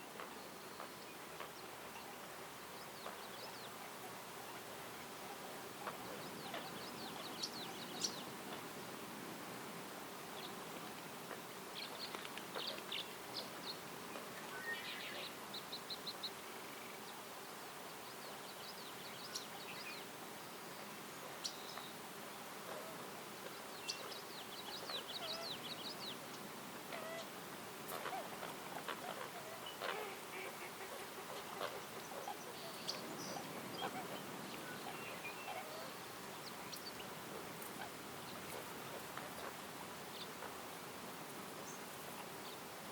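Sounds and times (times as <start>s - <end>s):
songbirds chirping and trilling: 0.0s - 42.9s
steady background hiss: 0.0s - 42.9s.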